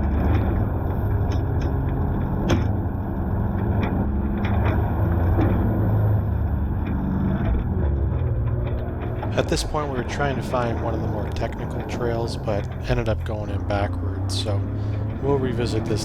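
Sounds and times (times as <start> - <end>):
side-by-side engine running: 0.0 - 7.8, 8.4 - 16.0.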